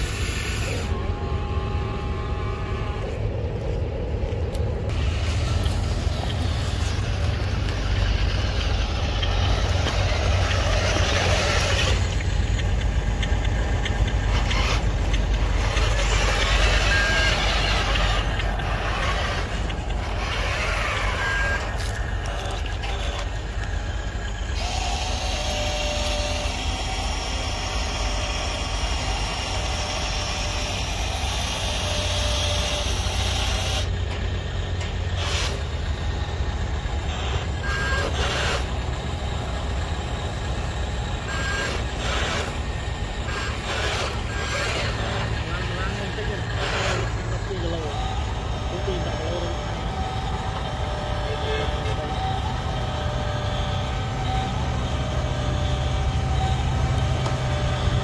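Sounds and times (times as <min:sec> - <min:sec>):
toy truck motors running: 0:00.0 - 0:58.0.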